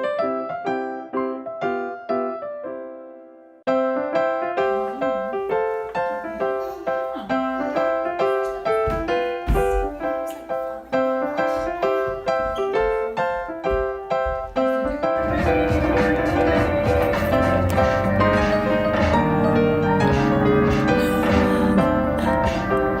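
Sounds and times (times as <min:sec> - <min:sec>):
piano melody: 0:00.0 - 0:23.0.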